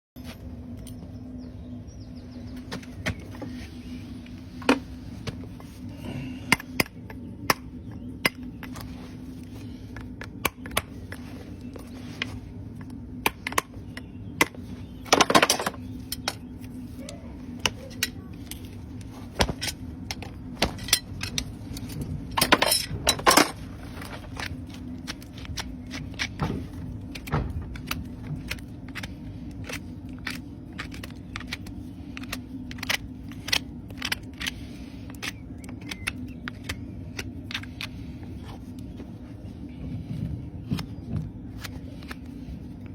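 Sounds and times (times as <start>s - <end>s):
steady low hum: 0.2s - 42.9s
hoof tools clicking and snipping: 6.5s - 39.0s, 40.6s - 42.9s.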